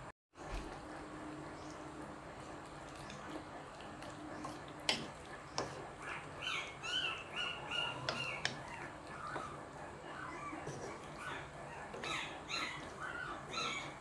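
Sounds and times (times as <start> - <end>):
spoon stirring simmering stew: 2.4 - 14.0.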